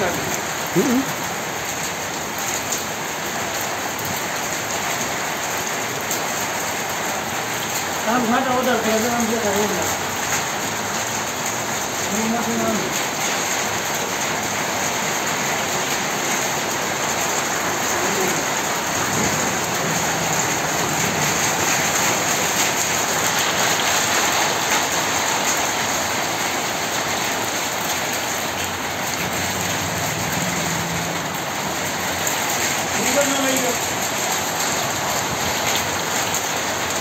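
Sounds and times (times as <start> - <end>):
rain falling steadily: 0.0 - 37.0.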